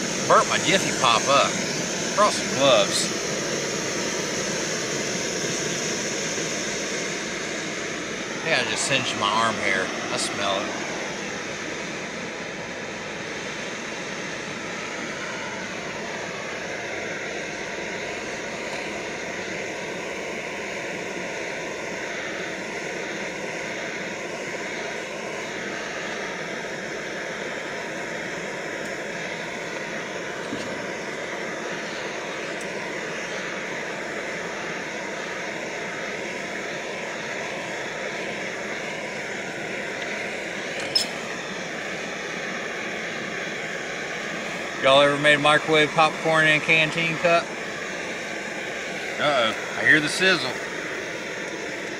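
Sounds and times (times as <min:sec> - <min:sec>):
gas stove burner roaring: 0:00.0 - 0:51.9.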